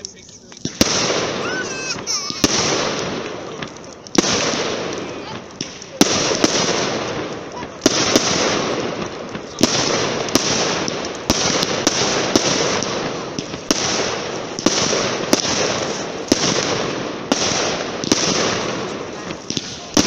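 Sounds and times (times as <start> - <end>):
fireworks bangs: 0.0 - 20.0
fireworks crackle hiss: 0.0 - 20.0.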